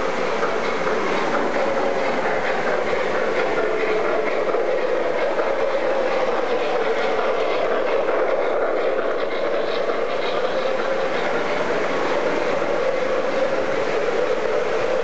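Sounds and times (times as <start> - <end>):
model train rumbling: 0.0 - 15.0.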